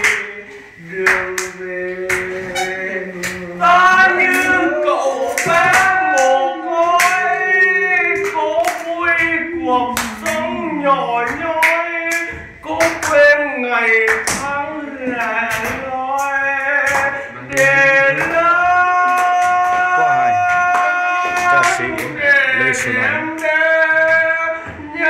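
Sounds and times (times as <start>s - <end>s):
man singing unaccompanied: 0.0s - 25.0s
people clapping along: 0.0s - 25.0s.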